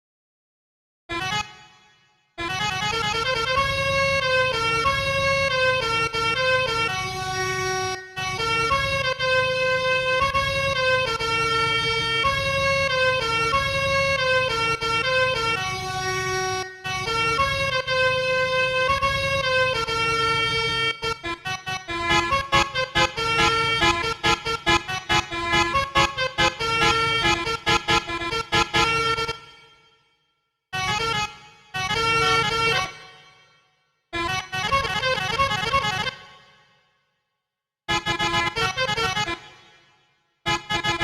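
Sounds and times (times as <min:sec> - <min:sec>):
multi-toned horn melody: 0:01.1 - 0:29.9, 0:30.8 - 0:33.5, 0:34.2 - 0:36.6, 0:37.9 - 0:41.0.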